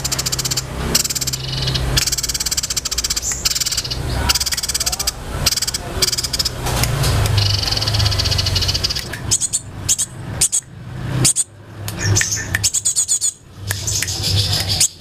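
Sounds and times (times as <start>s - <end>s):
buzzy rapid bird trill: 0.0s - 6.6s, 7.4s - 15.0s.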